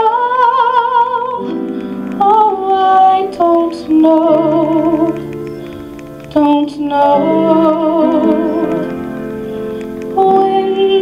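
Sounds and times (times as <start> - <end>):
woman singing: 0.0 - 5.4, 6.3 - 9.0, 10.2 - 11.0
piano chords: 0.0 - 11.0.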